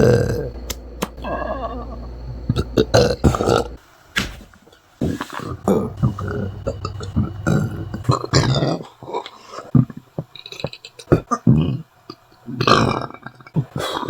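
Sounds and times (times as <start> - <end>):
person burping: 0.0 - 0.6, 1.2 - 3.8, 5.0 - 8.9, 9.8 - 14.0.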